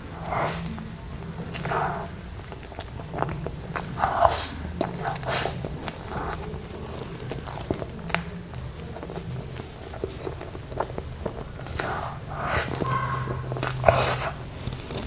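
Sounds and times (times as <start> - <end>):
lip smacks: 0.0 - 15.0
wet chewing and squishing: 0.0 - 15.0.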